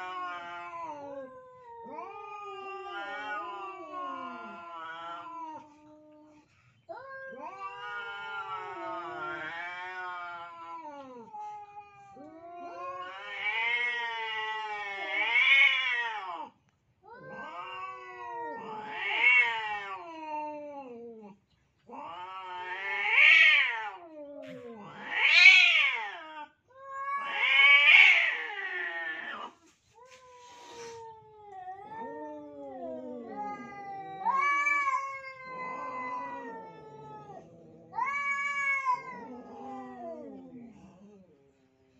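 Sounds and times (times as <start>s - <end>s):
cats yowling: 0.0s - 41.5s.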